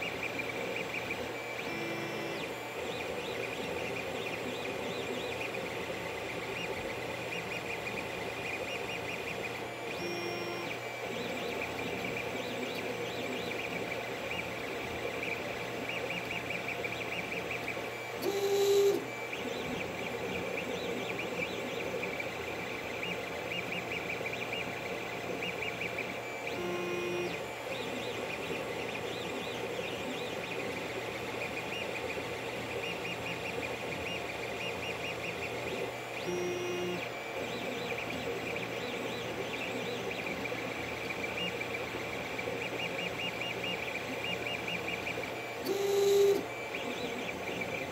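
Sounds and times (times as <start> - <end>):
printer short whine: 0.0 - 47.9
stepper motors chirping tick: 0.0 - 47.9.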